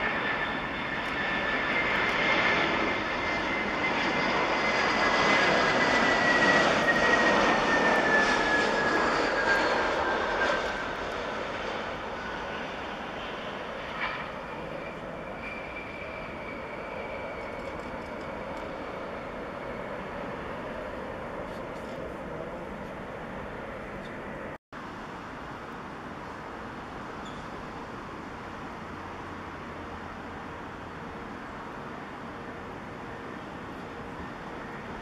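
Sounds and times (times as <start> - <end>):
jet engines roaring and whining: 0.0 - 35.0.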